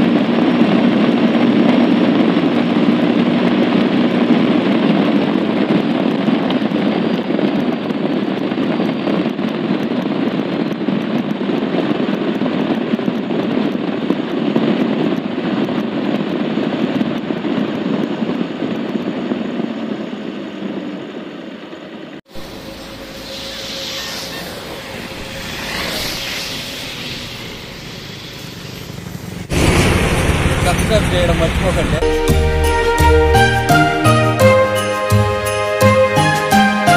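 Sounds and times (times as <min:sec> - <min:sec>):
motorcycle engine at speed: 0:00.0 - 0:20.1, 0:22.4 - 0:32.0
wind rushing past microphone: 0:00.0 - 0:21.6, 0:22.3 - 0:32.8.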